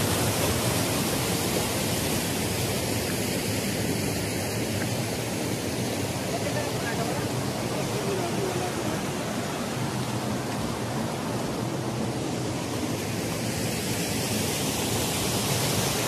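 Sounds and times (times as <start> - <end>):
mountain stream rushing over rocks: 0.0 - 16.0.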